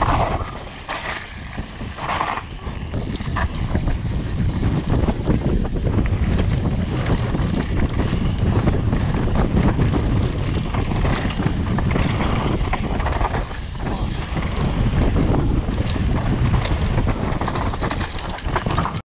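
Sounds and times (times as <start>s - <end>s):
bike knocks and rattles: 0.0s - 19.0s
tyres rumbling on dirt: 0.0s - 19.0s
wind buffeting microphone: 0.0s - 19.0s.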